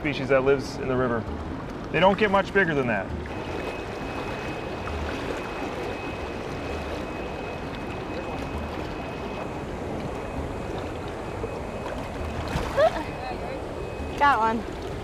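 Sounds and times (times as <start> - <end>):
people wading and splashing: 0.0 - 15.0
river water rushing: 2.6 - 15.0.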